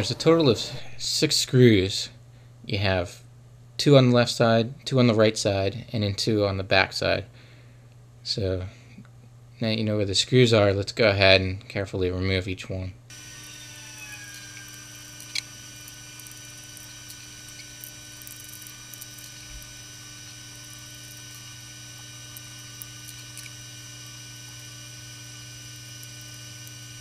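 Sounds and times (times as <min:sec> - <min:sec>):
electrical hum with buzzy whine: 0:00.0 - 0:27.0.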